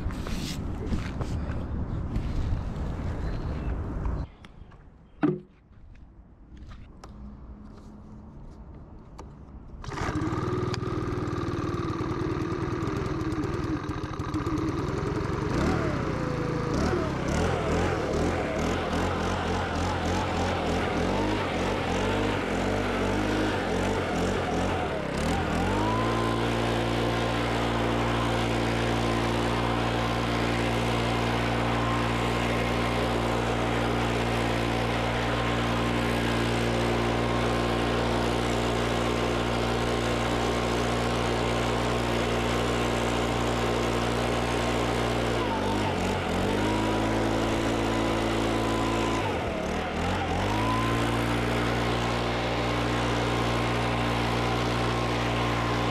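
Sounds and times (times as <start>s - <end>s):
small engine revving: 9.8s - 55.9s.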